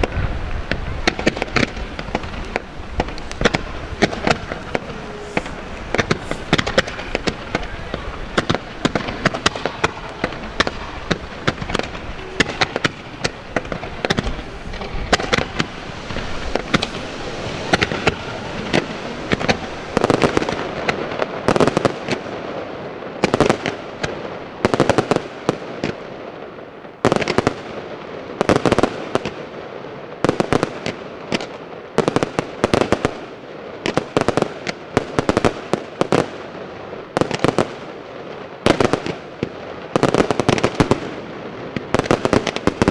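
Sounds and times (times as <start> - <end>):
firework launches and bursts: 0.0 - 42.9
loud firework bangs: 0.0 - 42.9.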